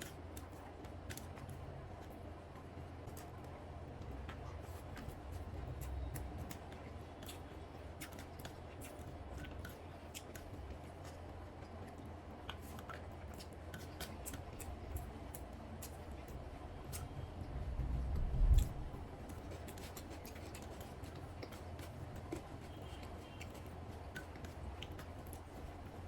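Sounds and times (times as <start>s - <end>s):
wet chewing sounds: 0.0s - 2.2s, 3.0s - 17.2s, 18.2s - 26.0s
low steady hum: 0.0s - 26.0s.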